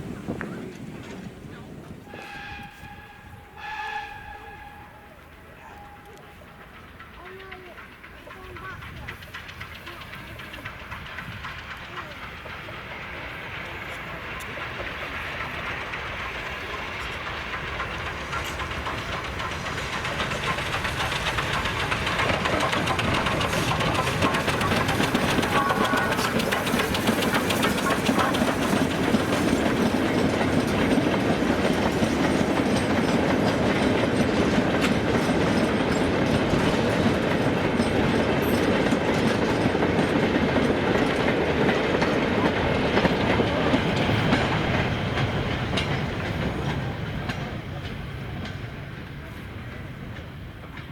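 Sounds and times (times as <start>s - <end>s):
train wheels clicking over rail joints: 0.0s - 50.9s.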